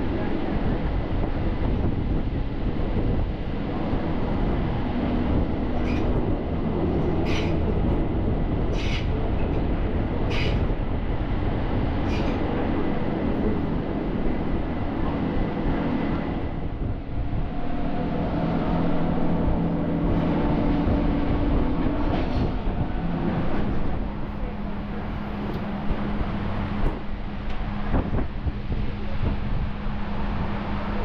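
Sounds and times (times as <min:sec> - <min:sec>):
train rumbling on track: 0:00.0 - 0:31.0.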